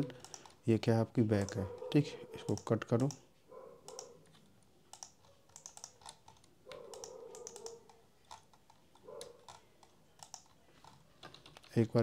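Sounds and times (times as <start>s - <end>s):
keyboard and mouse clicks: 0.0s - 0.6s, 1.4s - 3.2s, 3.8s - 11.8s.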